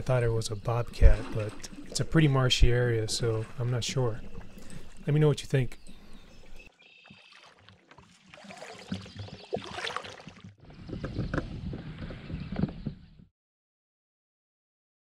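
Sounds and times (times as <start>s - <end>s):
kayak paddle splashing: 0.0s - 13.0s.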